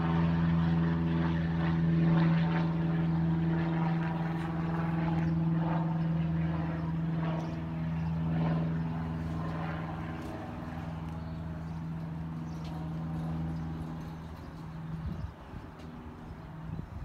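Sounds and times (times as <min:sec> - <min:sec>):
steady mechanical drone: 0:00.0 - 0:17.0.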